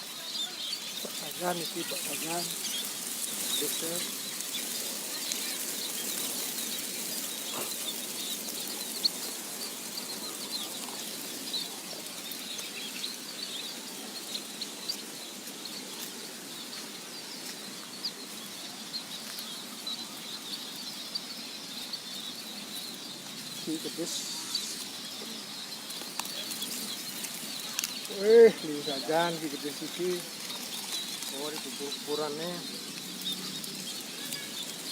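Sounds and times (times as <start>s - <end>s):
steady hiss: 0.0s - 20.8s, 22.6s - 34.9s
sparrows chirping: 0.0s - 34.9s.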